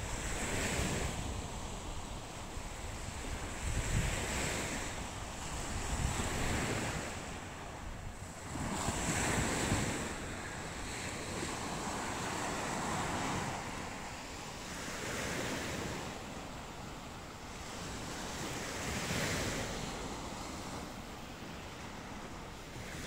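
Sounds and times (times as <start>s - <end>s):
sea waves breaking: 0.0s - 23.0s
wind buffeting microphone: 0.0s - 23.0s.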